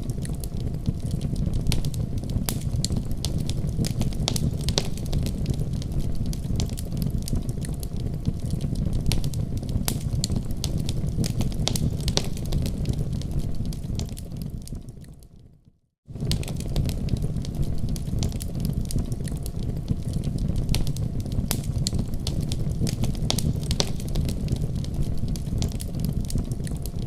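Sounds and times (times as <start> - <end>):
wood fire crackling: 0.0 - 15.5, 16.1 - 27.0.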